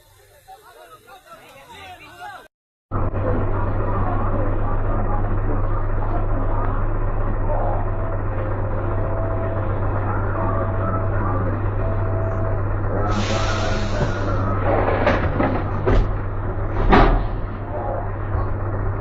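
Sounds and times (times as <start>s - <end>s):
faint whine: 2.9s - 19.0s
heavy engine drone: 2.9s - 19.0s.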